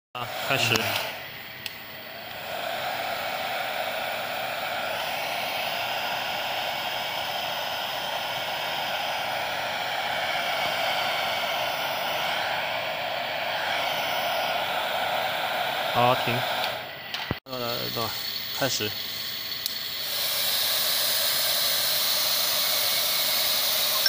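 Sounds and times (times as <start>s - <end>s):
hair dryer running: 0.2s - 17.3s, 20.0s - 24.0s.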